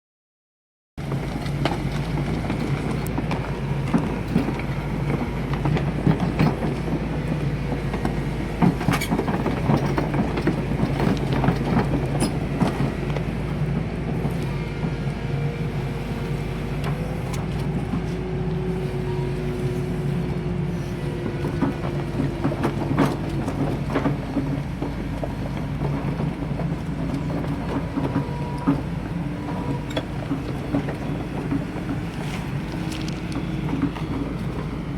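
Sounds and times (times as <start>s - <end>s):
diesel engine running: 1.0s - 34.9s.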